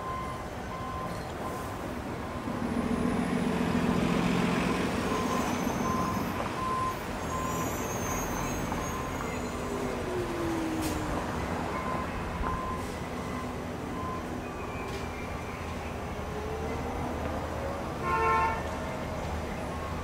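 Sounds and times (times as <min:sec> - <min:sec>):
trolleybus motor hum and whine: 0:00.0 - 0:20.0
tyre and traffic noise: 0:00.0 - 0:20.0.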